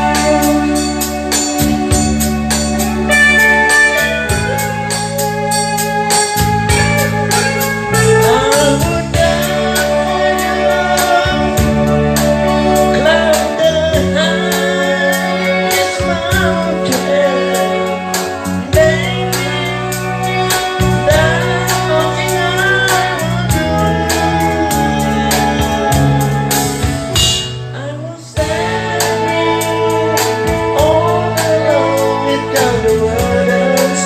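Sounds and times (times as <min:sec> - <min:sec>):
band playing a song: 0:00.0 - 0:34.0
drums keeping a steady beat: 0:00.0 - 0:34.0
lead vocal singing: 0:00.0 - 0:34.0.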